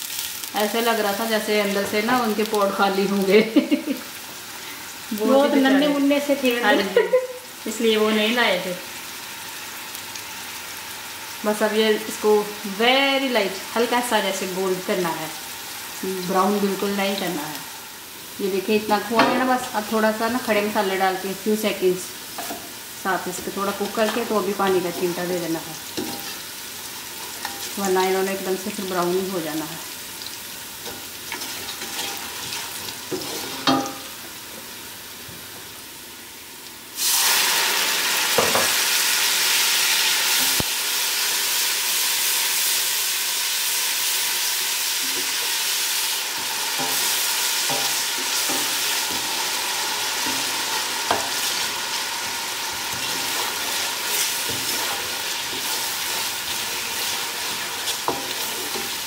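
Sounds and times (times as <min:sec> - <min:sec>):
onions sizzling in hot oil: 0:00.0 - 0:59.0.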